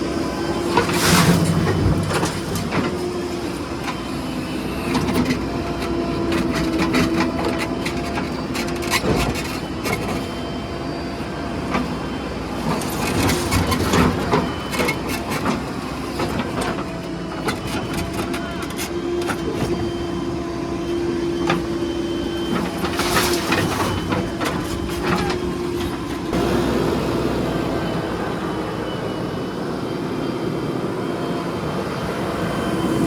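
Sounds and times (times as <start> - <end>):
backhoe diesel engine running: 0.0 - 33.0.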